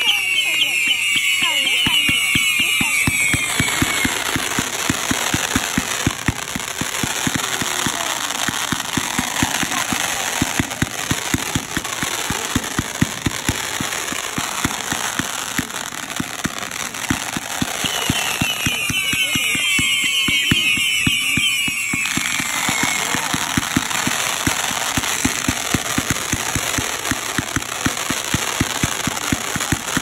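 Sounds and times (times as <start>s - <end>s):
firework whistle: 0.0s - 30.0s
fireworks popping: 0.0s - 30.0s.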